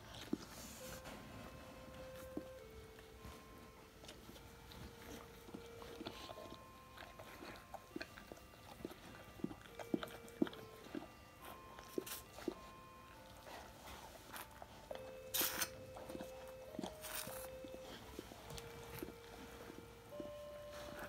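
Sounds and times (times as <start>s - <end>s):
dog licking puppy: 0.0s - 21.0s.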